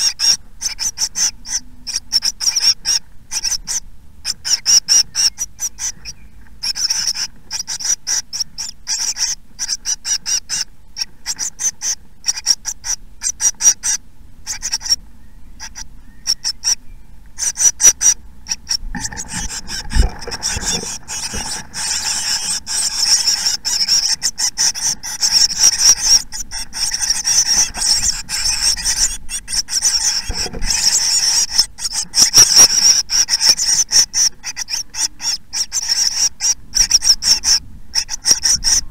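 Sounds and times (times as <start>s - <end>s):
nestlings begging calls: 0.0s - 38.9s.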